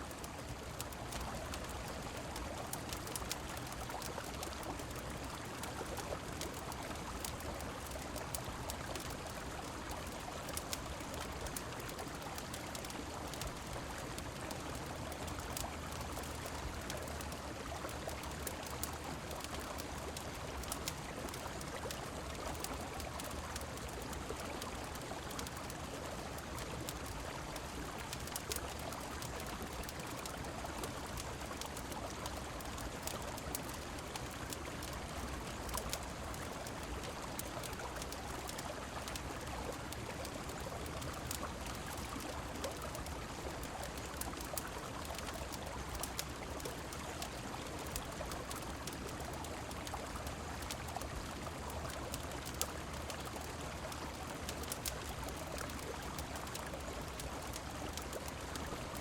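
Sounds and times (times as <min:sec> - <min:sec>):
rain falling: 0:00.0 - 0:59.0
river water flowing: 0:00.0 - 0:59.0
wood fire crackles: 0:00.0 - 0:59.0.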